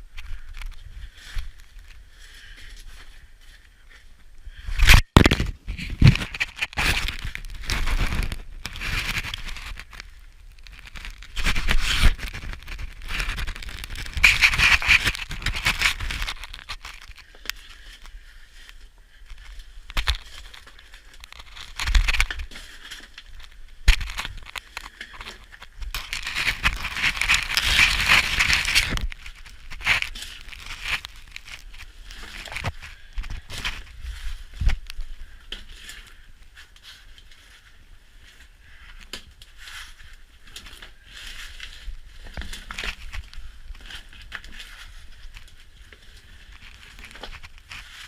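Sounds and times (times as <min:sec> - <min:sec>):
scraping and crinkling: 0:00.1 - 0:48.0.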